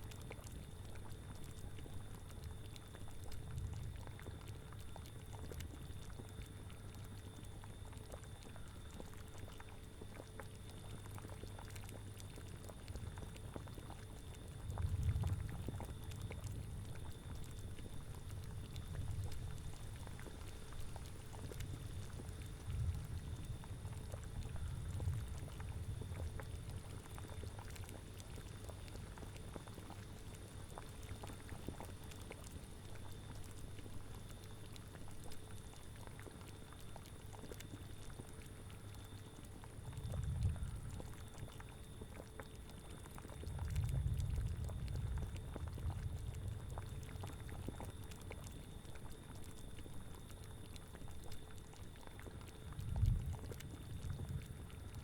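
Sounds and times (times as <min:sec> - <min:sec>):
cauldron bubbling and popping: 0:00.1 - 0:55.0.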